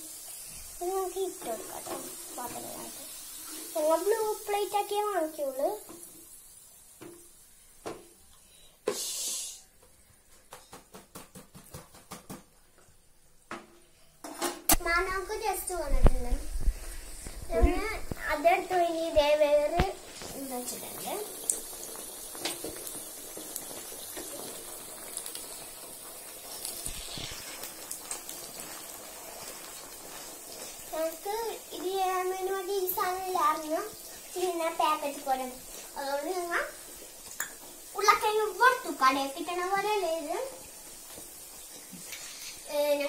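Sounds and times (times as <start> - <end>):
food sizzling in hot oil: 0.0 - 9.8, 14.2 - 43.0
frying pan hiss: 0.0 - 43.0.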